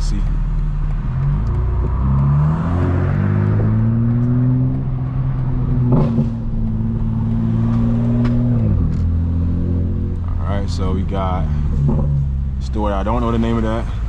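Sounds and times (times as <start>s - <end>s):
car engine pulling away: 0.0s - 14.0s.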